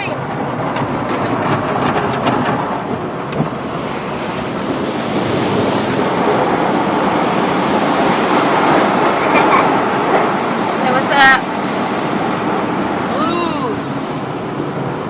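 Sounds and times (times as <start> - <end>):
water spraying on car body: 0.5 - 13.1.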